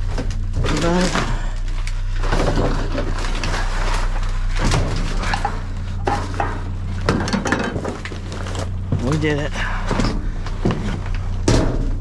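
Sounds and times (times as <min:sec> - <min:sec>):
items rustling and knocking: 0:00.0 - 0:12.0
truck engine idling: 0:00.0 - 0:12.0.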